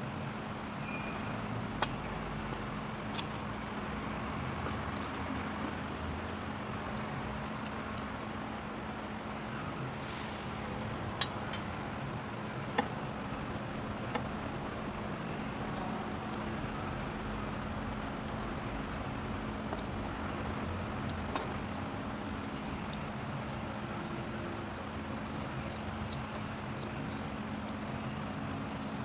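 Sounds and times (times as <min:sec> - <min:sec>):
background hum with faint tone: 0:00.0 - 0:29.0.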